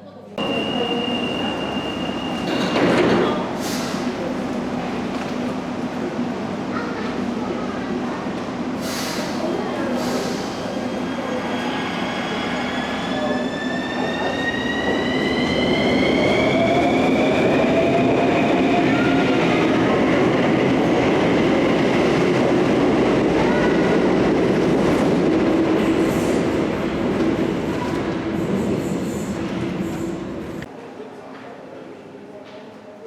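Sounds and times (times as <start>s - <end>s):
train running on rails: 0.4s - 30.7s.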